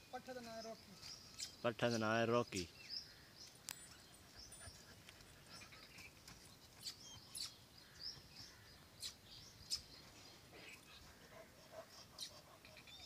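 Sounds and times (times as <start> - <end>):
faint bird chirping: 0.0 - 13.0.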